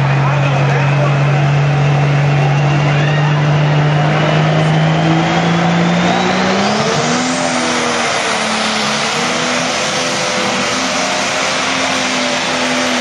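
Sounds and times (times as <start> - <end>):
diesel tractor engine revving: 0.0 - 13.0
turbocharger whine: 0.0 - 13.0.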